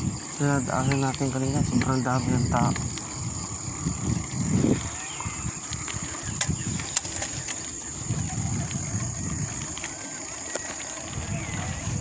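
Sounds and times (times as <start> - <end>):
bike rattling clicks: 0.0 - 12.0
wind buffeting microphone: 0.0 - 12.0.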